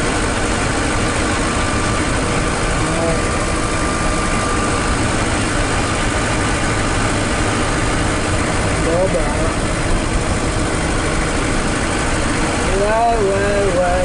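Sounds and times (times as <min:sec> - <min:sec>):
engine and road noise in cab: 0:00.0 - 0:14.0.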